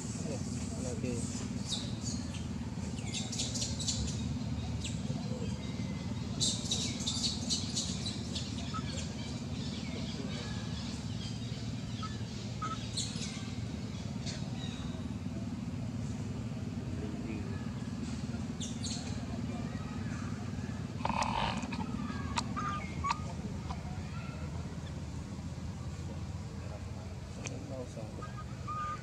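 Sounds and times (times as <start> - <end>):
birds chirping: 0.0 - 29.0
low background rumble: 0.0 - 29.0.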